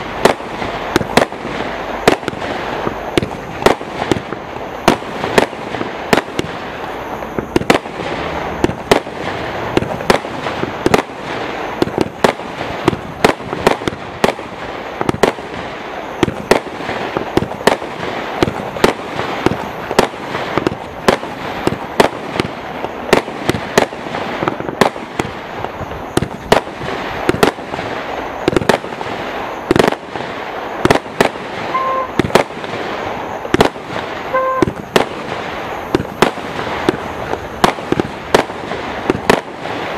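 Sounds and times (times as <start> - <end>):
firework bangs: 0.0 - 39.9
firework crackling: 0.0 - 39.9.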